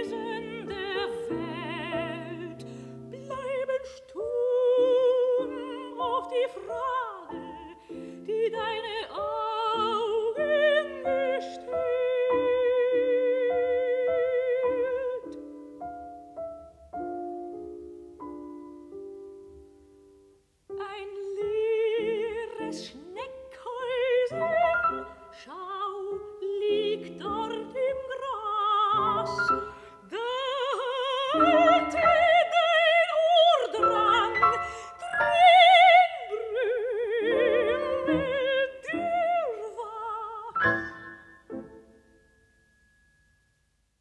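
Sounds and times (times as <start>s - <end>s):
soprano singing with vibrato: 0.0s - 15.7s, 20.7s - 42.0s
piano accompaniment: 0.0s - 43.7s.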